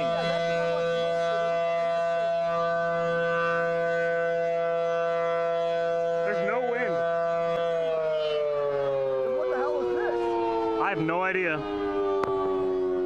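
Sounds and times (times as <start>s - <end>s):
tornado warning siren: 0.0s - 13.0s.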